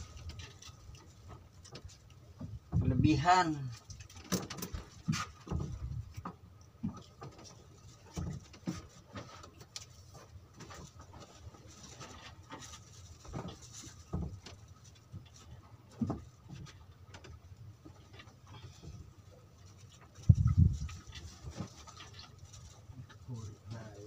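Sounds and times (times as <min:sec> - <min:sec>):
knocks and thumps on wooden boat: 0:00.0 - 0:19.2, 0:20.1 - 0:22.2.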